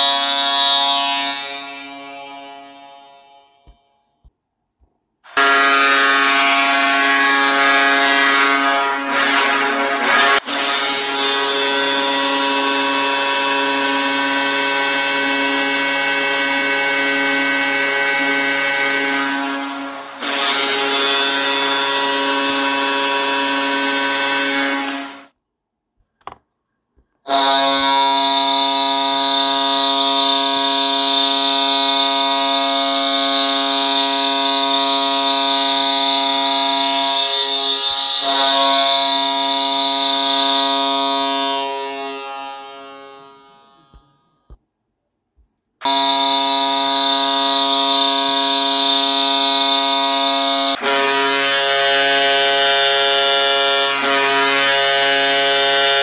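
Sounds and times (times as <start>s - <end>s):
deep hockey goal horn: 0.0s - 4.3s, 5.3s - 25.3s, 27.3s - 44.6s, 45.8s - 56.0s.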